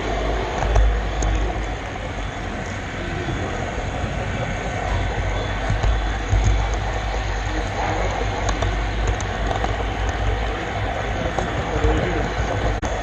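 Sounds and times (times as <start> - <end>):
model train wheels rumbling on rail: 0.0 - 13.0.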